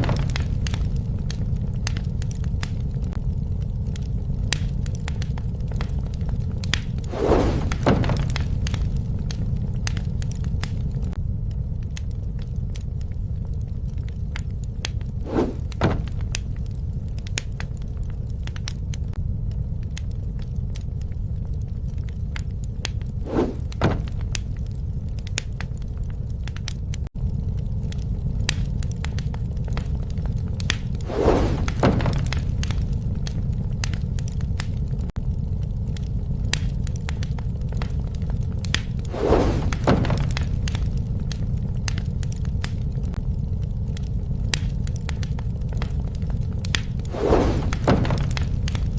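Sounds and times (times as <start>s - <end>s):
loud fire snaps: 0.0s - 48.9s
low rumble: 0.0s - 48.9s
wood fire crackling: 0.0s - 48.9s.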